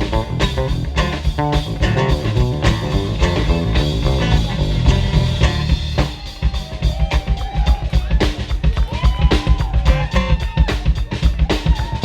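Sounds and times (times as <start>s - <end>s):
bass guitar: 0.0s - 12.0s
electric guitar: 0.0s - 12.0s
live rock band instrumental: 0.0s - 12.0s.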